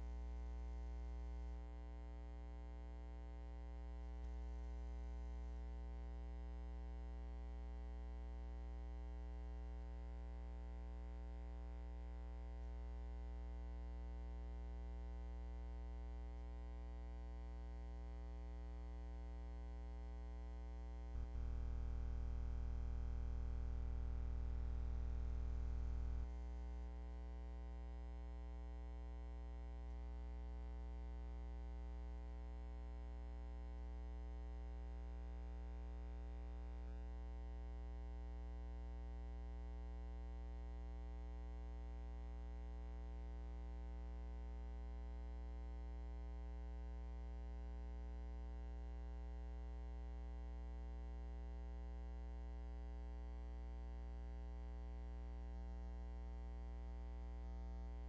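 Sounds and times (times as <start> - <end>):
low mains hum: 0.0 - 58.0.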